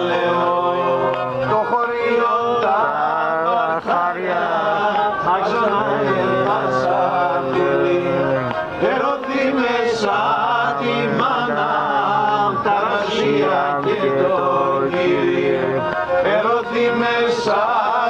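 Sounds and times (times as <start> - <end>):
bowed string instrument: 0.0 - 17.9
man singing folk song: 0.0 - 18.0.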